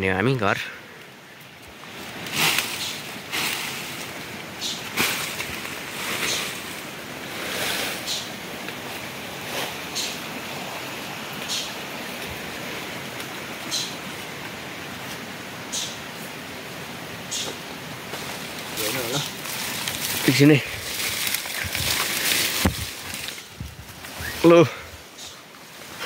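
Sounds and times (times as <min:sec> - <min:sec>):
leafy branches rustling: 0:00.4 - 0:26.0.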